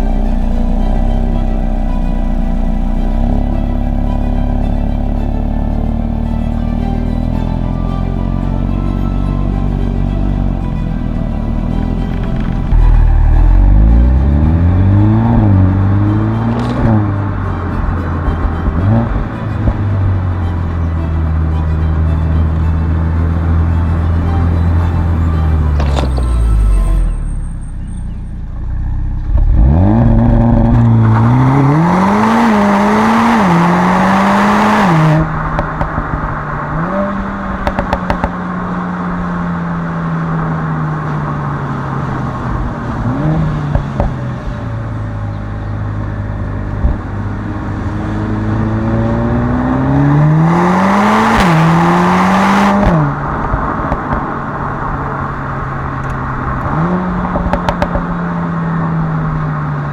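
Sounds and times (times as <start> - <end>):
exhaust crackles: 0.0 - 59.7
car engine accelerating with upshifts: 0.0 - 59.9.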